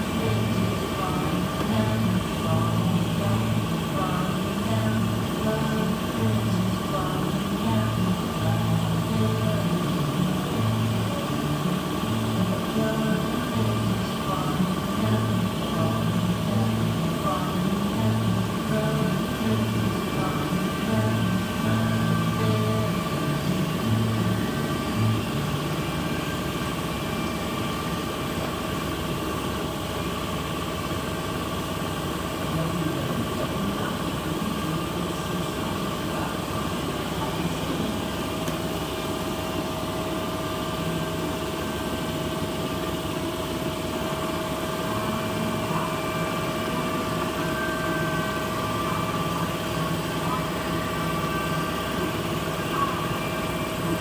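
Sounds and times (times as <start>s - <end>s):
faint voices: 0.0s - 28.9s, 32.3s - 41.4s, 44.0s - 54.0s
kiddie train ride motor hum: 0.0s - 54.0s.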